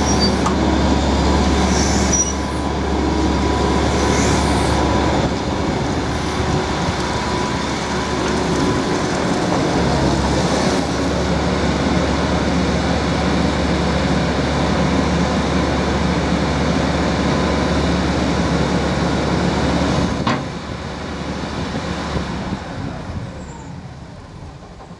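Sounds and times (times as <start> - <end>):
excavator engine and hydraulics: 0.0 - 24.9.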